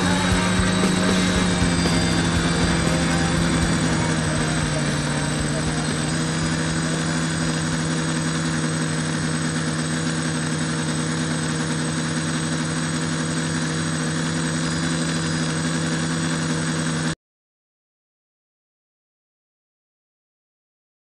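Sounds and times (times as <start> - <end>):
quadcopter motors droning: 0.0 - 17.2.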